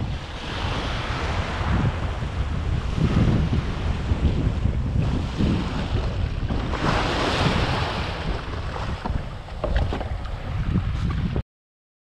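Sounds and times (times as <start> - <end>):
small surf washing on beach: 0.0 - 11.2
wind buffeting the microphone: 0.0 - 11.4.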